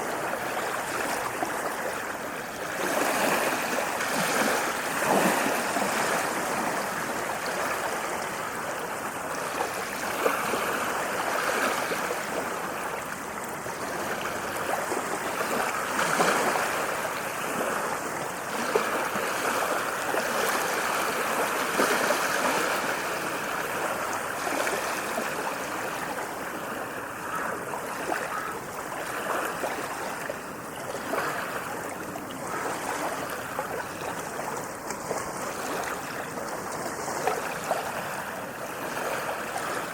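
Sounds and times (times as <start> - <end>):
waves washing onto a beach: 0.0 - 39.9.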